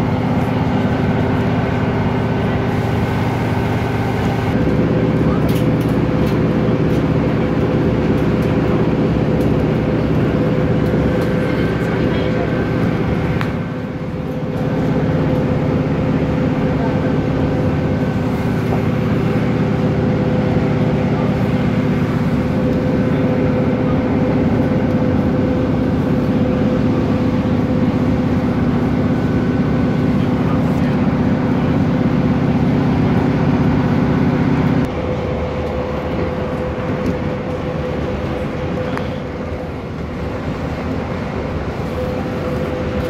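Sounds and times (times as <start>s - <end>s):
train rumble inside carriage: 0.0s - 43.0s.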